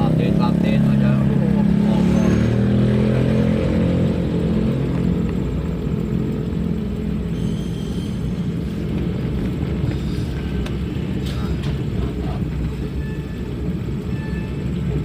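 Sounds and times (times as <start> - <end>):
minibus engine rumble: 0.0 - 15.0
road noise: 0.0 - 15.0.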